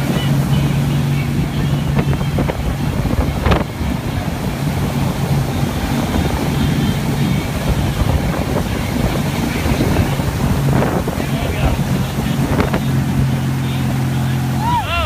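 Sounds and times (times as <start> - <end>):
boat engine humming: 0.0 - 15.0
water rushing past: 0.0 - 15.0
wind buffeting microphone: 0.0 - 15.0.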